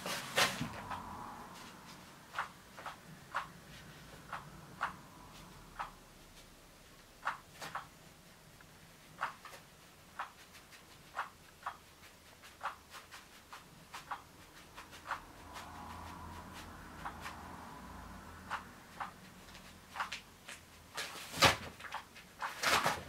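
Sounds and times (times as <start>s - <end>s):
sharp clicks and ticks of cat toy: 2.0s - 17.7s, 18.3s - 23.0s.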